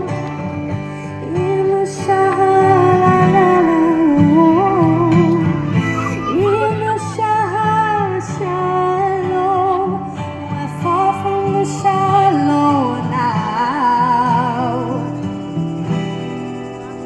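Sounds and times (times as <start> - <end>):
sung melody with vibrato: 0.0 - 16.6.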